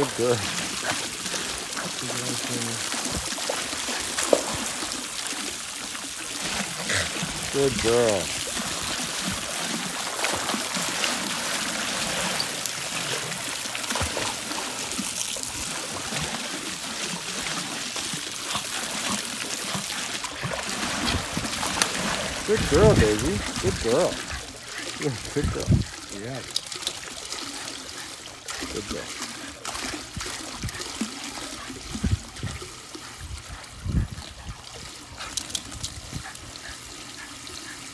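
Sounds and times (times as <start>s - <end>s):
dog paddling splashes: 0.0s - 37.9s
hose spraying water on water: 0.0s - 37.9s.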